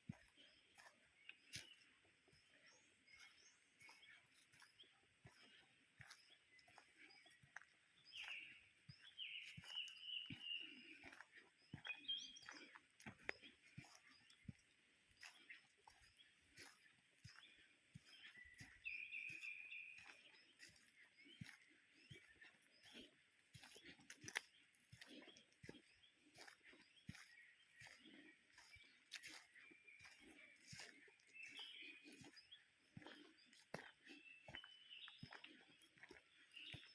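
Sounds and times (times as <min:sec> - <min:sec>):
footsteps on forest floor: 0:00.0 - 0:36.9
songbirds chirping: 0:00.0 - 0:36.9.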